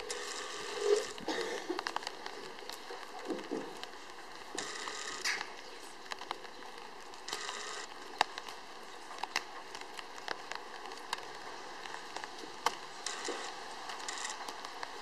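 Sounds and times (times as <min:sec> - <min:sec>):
bonfire crackling: 0:00.0 - 0:15.0
fire popping: 0:00.0 - 0:15.0.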